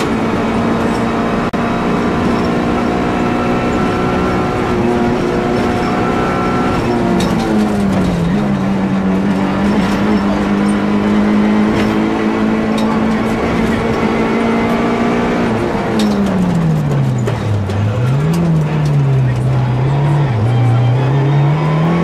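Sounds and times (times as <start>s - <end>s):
car engine revving high: 0.0s - 22.0s.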